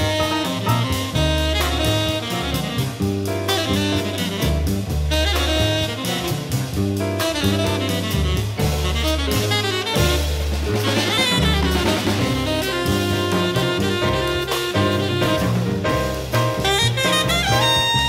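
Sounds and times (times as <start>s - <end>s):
bass notes: 0.0s - 18.0s
drum kit: 0.0s - 18.0s
saxophone: 0.0s - 18.0s.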